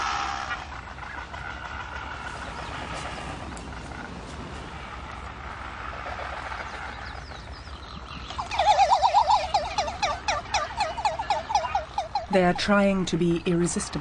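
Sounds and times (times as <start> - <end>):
distant bird calls: 0.0 - 14.0
steady rushing background: 0.4 - 14.0.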